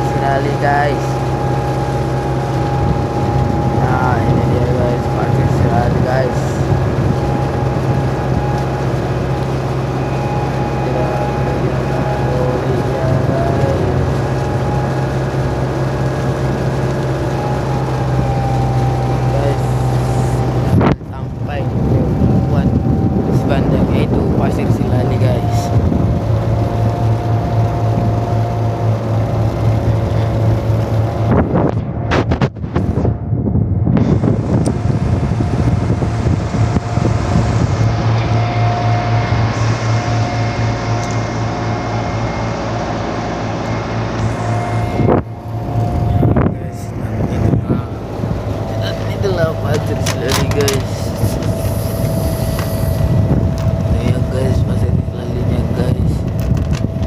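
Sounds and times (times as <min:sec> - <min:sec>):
boat engine droning: 0:00.0 - 0:57.0
wind buffeting microphone: 0:00.0 - 0:57.0.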